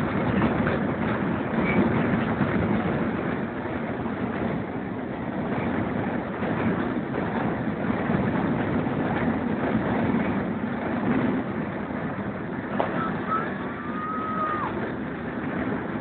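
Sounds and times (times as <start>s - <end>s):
train rumbling on rails: 0.0s - 16.0s
wind at open window: 0.0s - 16.0s.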